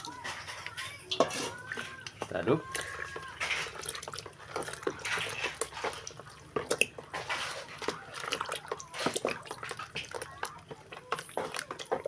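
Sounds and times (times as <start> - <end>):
spoon scraping plastic bowl: 0.0 - 12.0
wet batter sloshing: 0.0 - 12.0.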